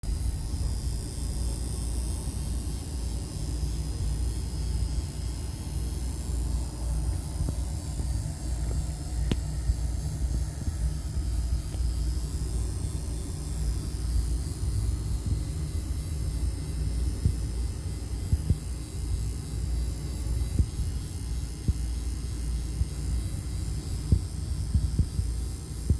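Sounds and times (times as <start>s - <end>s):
breaker panel buzzing hum: 0.0s - 25.9s.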